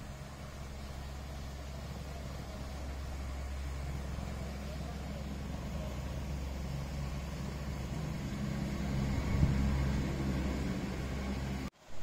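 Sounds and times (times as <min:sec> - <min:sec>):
motor humming: 0:00.0 - 0:11.7.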